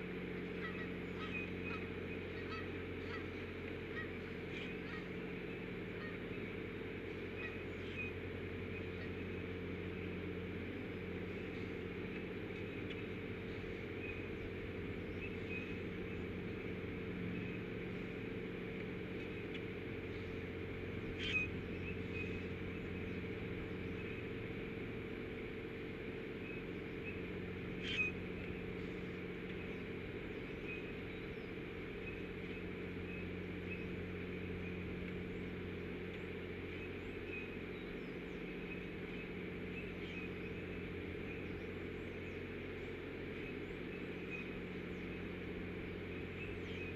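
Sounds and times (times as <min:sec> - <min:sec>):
small birds chirping: 0:00.0 - 0:46.9
steady low hum: 0:00.0 - 0:46.9.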